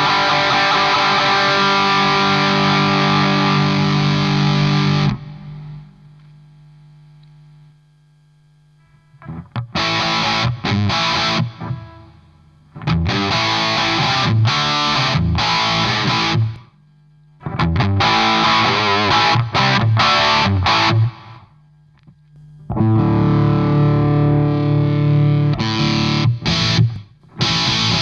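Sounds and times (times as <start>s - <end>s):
distorted electric guitar: 0.0s - 6.1s, 8.9s - 16.8s, 17.4s - 21.6s, 22.6s - 28.0s.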